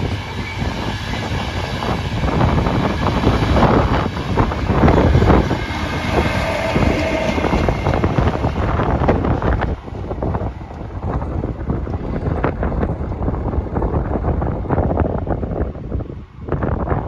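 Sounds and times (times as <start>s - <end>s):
train rumbling past: 0.0s - 17.0s
wind buffeting microphone: 0.0s - 17.0s.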